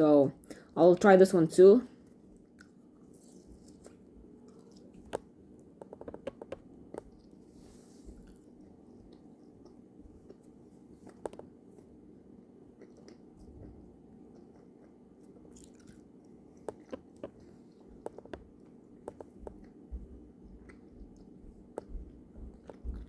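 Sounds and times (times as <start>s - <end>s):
low background hum: 0.0s - 23.0s
chewing soft candy: 1.9s - 23.0s.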